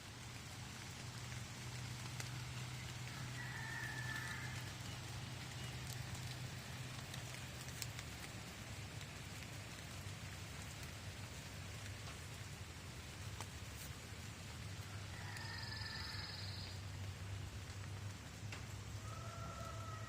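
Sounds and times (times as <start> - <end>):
low steady hum: 0.0 - 20.0
water dripping from trees: 0.0 - 20.0.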